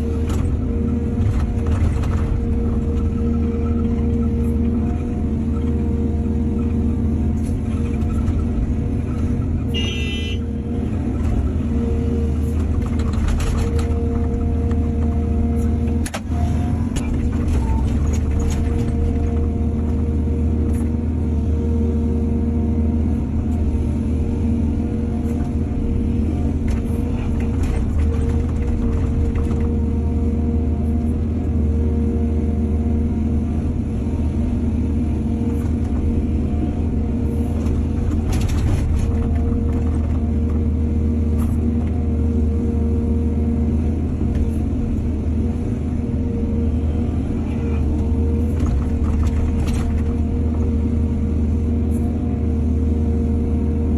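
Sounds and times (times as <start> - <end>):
excavator engine droning: 0.0 - 53.9.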